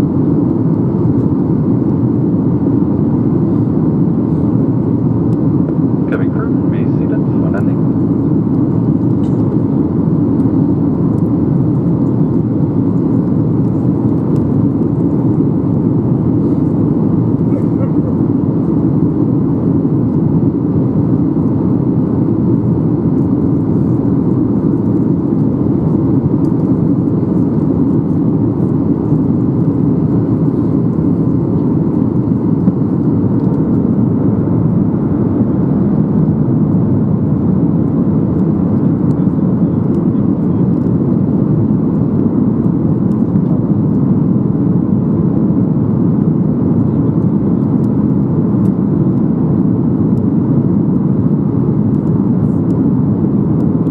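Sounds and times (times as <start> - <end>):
airflow in aircraft cabin: 0.0 - 53.9
engine drone: 0.0 - 53.9.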